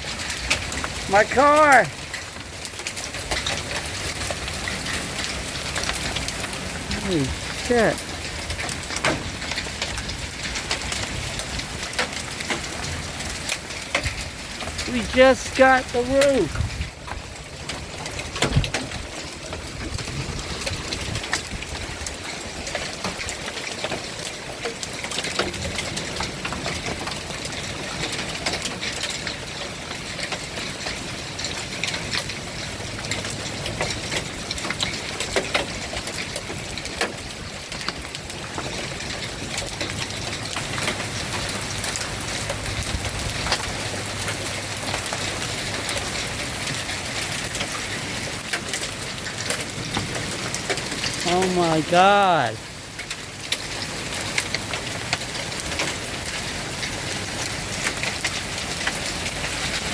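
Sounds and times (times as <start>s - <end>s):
hail striking hard surfaces: 0.0s - 59.9s
rain-like hiss: 0.0s - 59.9s.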